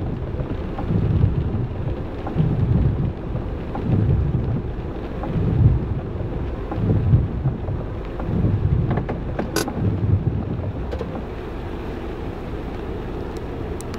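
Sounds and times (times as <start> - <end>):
rainstorm rumbling: 0.0 - 13.9.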